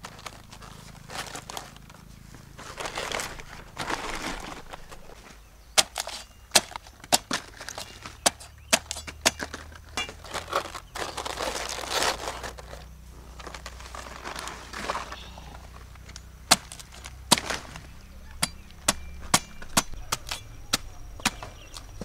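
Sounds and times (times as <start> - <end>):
hands rustling and crunching: 0.0 - 22.0.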